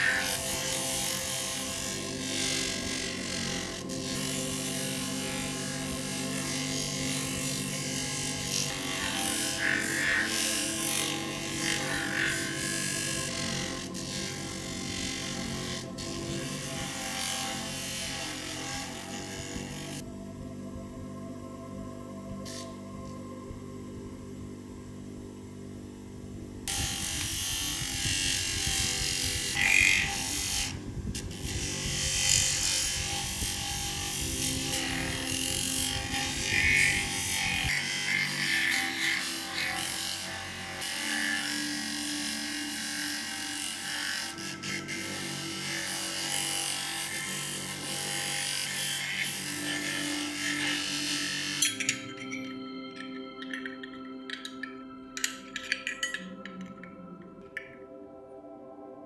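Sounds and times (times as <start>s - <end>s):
power tool grinding metal: 0.0s - 20.0s, 26.7s - 56.9s
soft background music: 0.0s - 59.0s.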